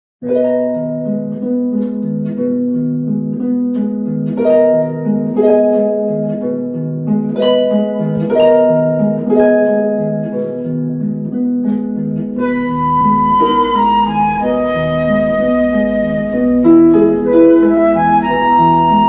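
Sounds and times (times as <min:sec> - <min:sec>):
harp playing: 0:00.2 - 0:19.0.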